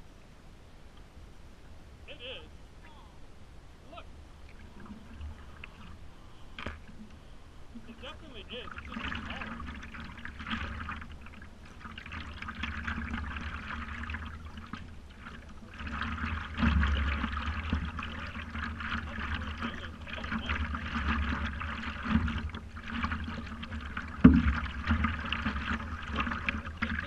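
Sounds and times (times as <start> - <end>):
water lapping against paddleboard: 3.9 - 27.0.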